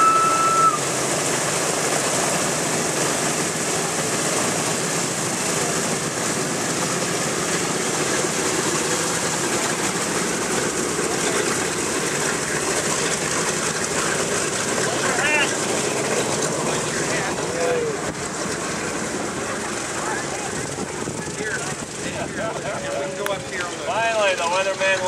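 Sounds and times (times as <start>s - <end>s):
propeller plane taxiing: 0.0s - 25.0s.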